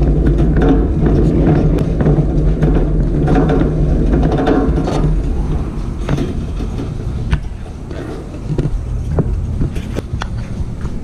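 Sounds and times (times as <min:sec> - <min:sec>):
shopping cart wheels rumbling: 0:00.0 - 0:11.0.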